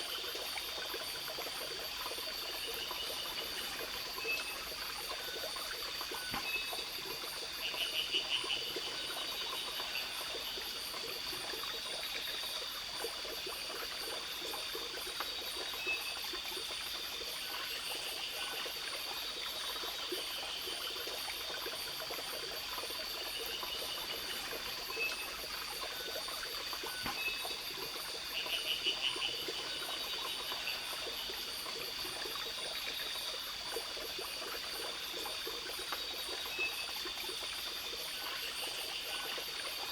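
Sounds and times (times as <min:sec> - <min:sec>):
small stream running: 0:00.0 - 0:39.9.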